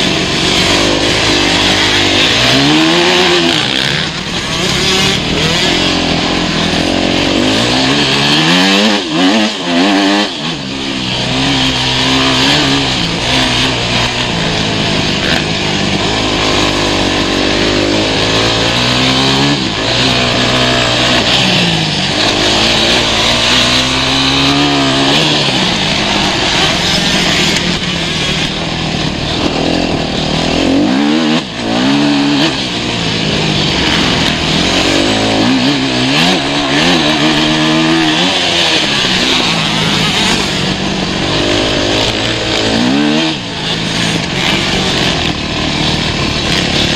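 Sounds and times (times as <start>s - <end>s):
motocross motorcycle engine revving: 0.0s - 46.9s.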